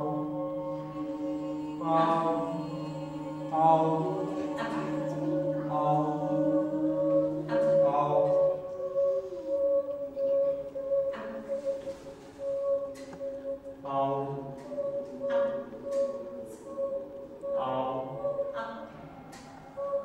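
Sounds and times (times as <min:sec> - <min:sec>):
voices singing chant-like drone: 0:00.0 - 0:20.0.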